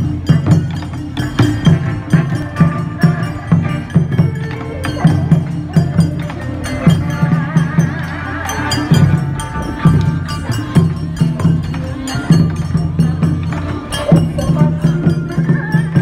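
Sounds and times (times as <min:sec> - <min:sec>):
folk dance song: 0:00.0 - 0:16.0
steady drum beat: 0:00.0 - 0:16.0.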